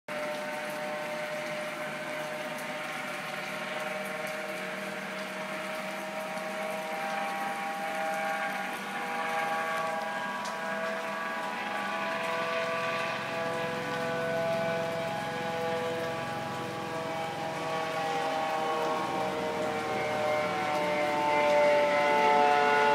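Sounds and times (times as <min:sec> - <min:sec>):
helicopter whine: 0:00.1 - 0:22.9
helicopter rotor noise: 0:00.4 - 0:21.8.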